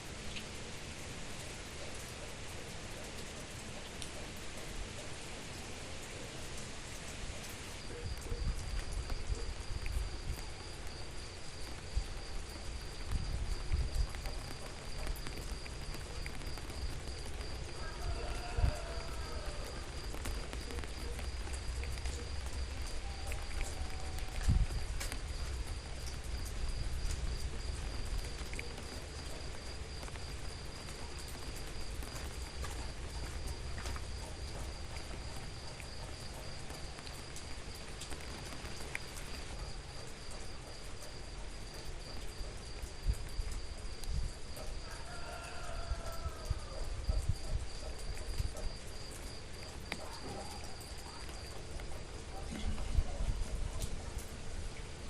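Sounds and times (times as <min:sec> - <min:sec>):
steady rain: 0:00.0 - 0:55.0
high pulsing insect trill: 0:07.8 - 0:55.0.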